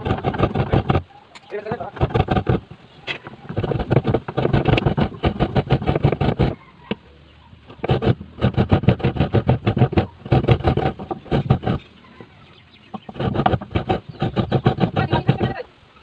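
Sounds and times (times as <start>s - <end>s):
rapid scraping of tuber skin: 0.0s - 6.6s, 7.7s - 12.0s, 12.9s - 15.6s.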